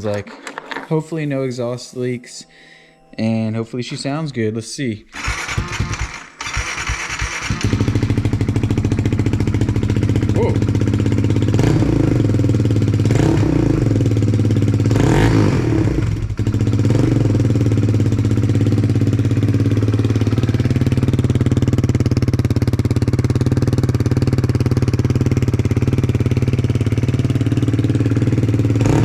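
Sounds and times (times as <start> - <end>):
motorcycle engine revving and idling: 5.2 - 29.0.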